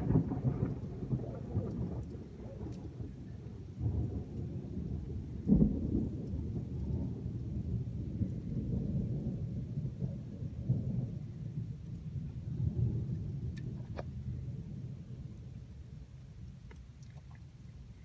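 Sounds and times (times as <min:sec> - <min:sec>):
low rolling thunder rumble: 0:00.0 - 0:16.6.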